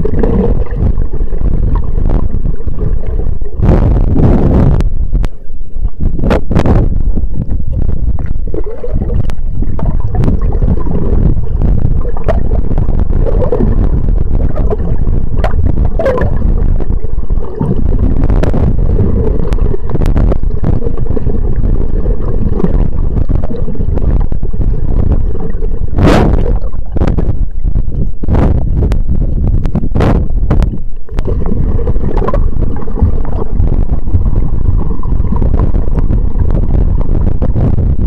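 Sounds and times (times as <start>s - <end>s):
muffled underwater rumble: 0.0s - 38.0s
underwater clicks and gurgles: 0.0s - 38.0s.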